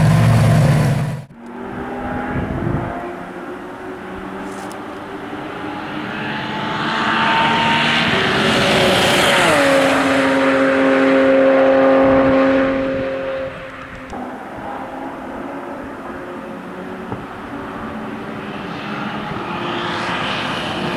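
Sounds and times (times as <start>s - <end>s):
race car engine passing: 0.0s - 20.9s.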